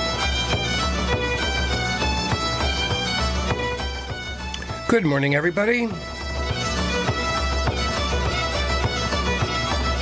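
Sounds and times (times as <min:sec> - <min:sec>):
instrumental irish folk music: 0:00.0 - 0:10.0.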